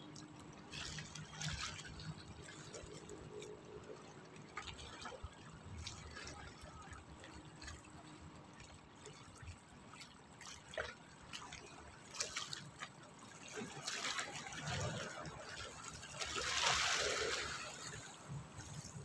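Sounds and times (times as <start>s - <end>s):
small waves lapping against rocks: 0.0s - 19.0s.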